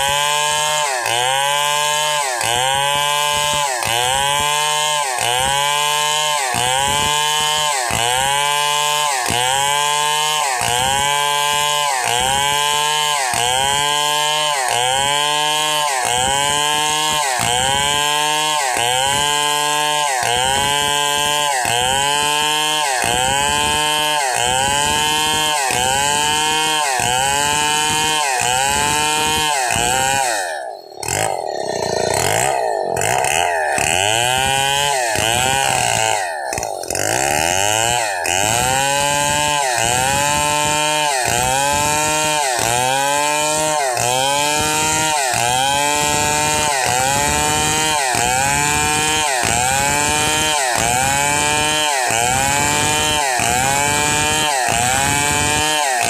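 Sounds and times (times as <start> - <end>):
chainsaw cutting wood at high revs: 0.0 - 56.0.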